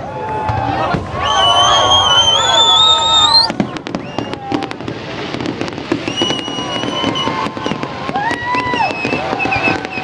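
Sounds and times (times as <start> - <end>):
fireworks cracking and popping: 0.2 - 10.0
fireworks whistling: 0.9 - 10.0.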